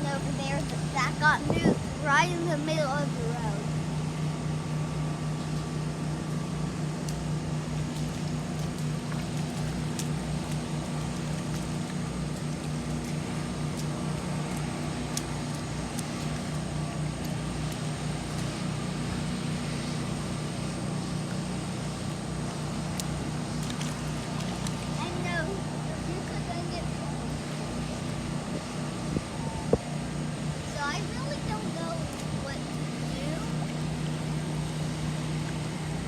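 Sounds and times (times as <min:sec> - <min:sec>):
motor humming: 0:00.0 - 0:36.0.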